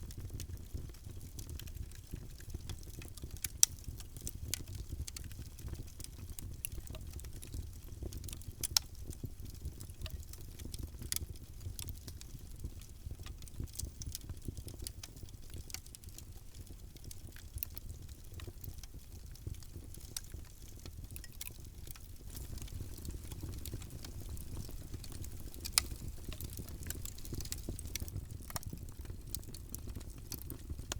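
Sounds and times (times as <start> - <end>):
wood fire crackling: 0.1 - 30.9.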